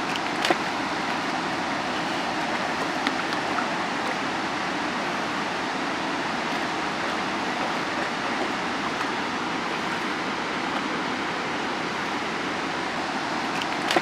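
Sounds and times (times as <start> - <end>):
river water rushing over weir: 0.0 - 14.0.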